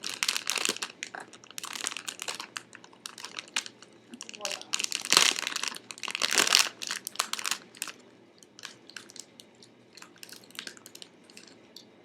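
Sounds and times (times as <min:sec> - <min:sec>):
plastic snack bag crinkling: 0:00.0 - 0:11.6
rice crackers crunching: 0:00.0 - 0:11.7.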